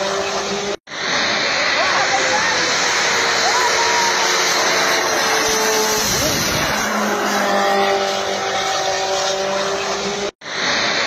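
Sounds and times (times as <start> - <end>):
loud engine roar: 0.0 - 11.0.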